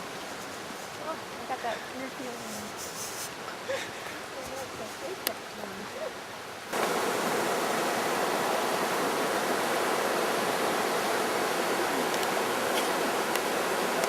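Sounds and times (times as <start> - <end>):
fast-flowing water rushing: 0.0 - 14.0.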